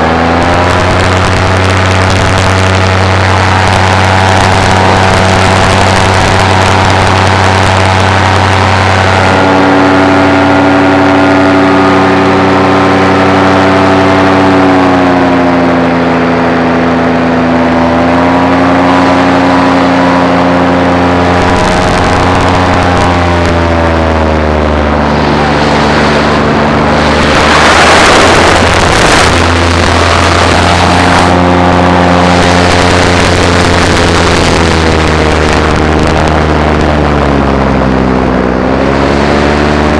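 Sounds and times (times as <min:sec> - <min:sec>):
paramotor engine and propeller: 0:00.0 - 0:39.9
rush of wind: 0:00.0 - 0:39.9.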